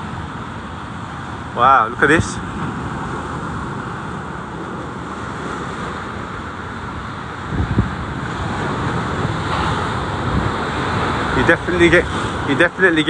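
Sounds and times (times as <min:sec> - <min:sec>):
sea waves crashing: 0:00.0 - 0:13.0
wind buffeting microphone: 0:00.0 - 0:13.0.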